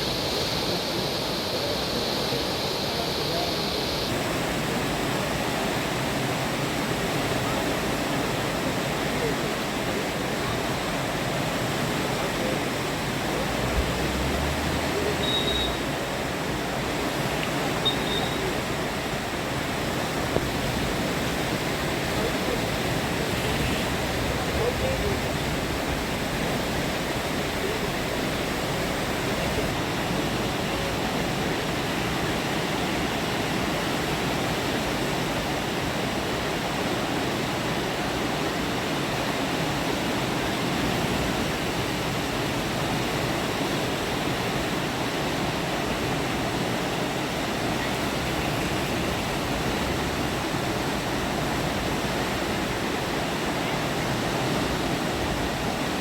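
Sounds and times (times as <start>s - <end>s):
fast-flowing river water rushing: 0.0s - 56.0s.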